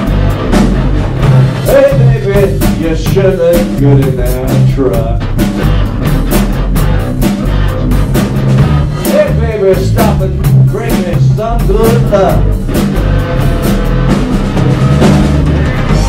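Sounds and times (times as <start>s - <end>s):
blues-rock band playing: 0.0s - 16.0s
drum and cymbal beat: 0.0s - 16.0s.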